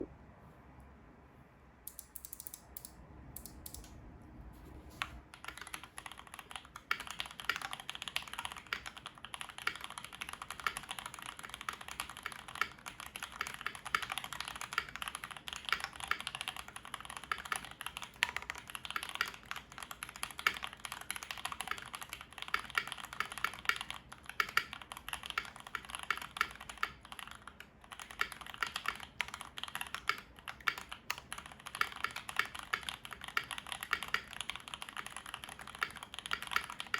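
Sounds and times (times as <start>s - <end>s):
typing on mechanical keyboard: 5.0s - 36.9s.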